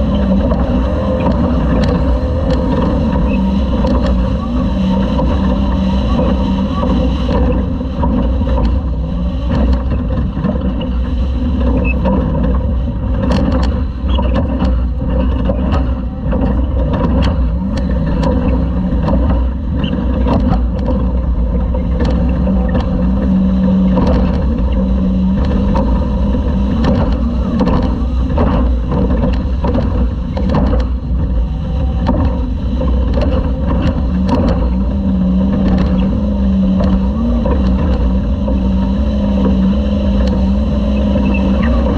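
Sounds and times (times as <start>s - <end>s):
heavy low rumble: 0.0s - 41.9s
knocks and rattles: 0.0s - 41.9s
race truck engine under load: 0.0s - 41.9s.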